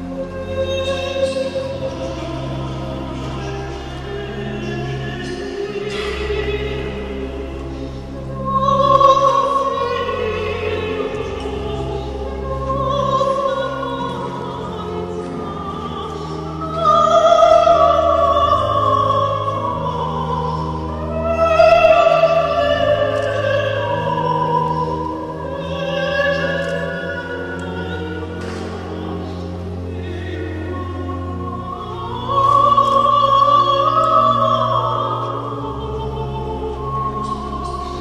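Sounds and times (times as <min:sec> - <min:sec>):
classical accompaniment: 0:00.0 - 0:38.0
operatic singing: 0:00.0 - 0:38.0.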